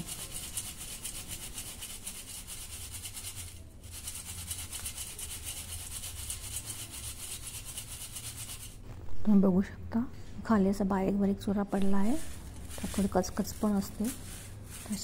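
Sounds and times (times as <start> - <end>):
rice flakes rustling in sieve: 0.0 - 8.8, 11.8 - 15.0.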